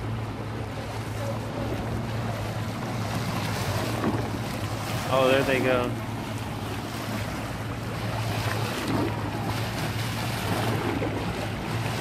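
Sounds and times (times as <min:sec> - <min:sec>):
boat engine hum: 0:00.0 - 0:12.0
water rushing past hull: 0:00.0 - 0:12.0.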